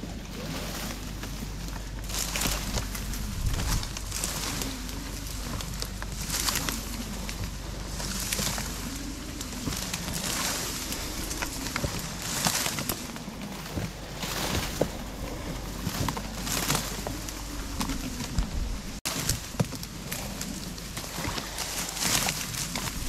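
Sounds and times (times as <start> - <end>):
reed stalks clicking and snapping: 0.0 - 23.0
reeds swishing against kayak: 0.0 - 23.0.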